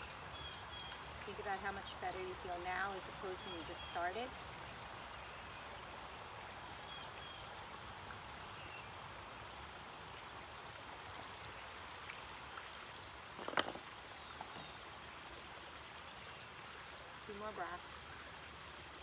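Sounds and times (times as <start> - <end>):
water trickling in a pond: 0.0 - 19.0.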